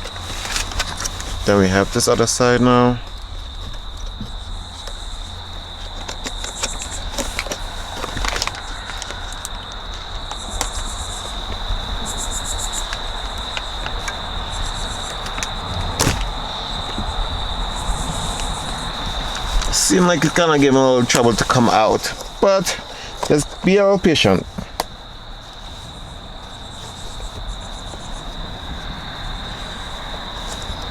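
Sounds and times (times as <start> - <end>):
crickets trilling: 0.0 - 30.9.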